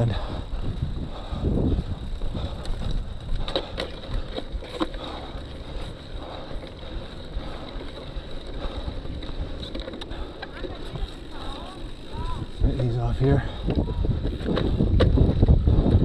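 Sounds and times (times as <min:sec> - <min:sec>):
bike clicks and rattles: 0:00.0 - 0:16.0
bike tyres grinding through sand: 0:00.0 - 0:16.0.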